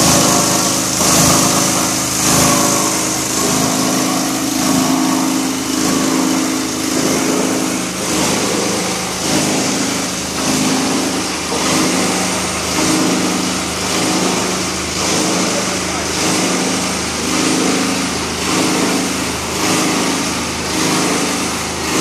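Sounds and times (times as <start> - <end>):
plastic granulator machine drone: 0.0 - 22.0.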